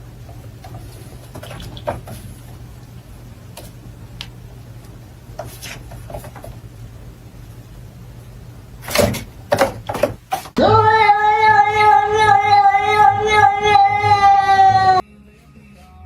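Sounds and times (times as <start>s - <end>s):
low steady hum: 0.0s - 15.6s.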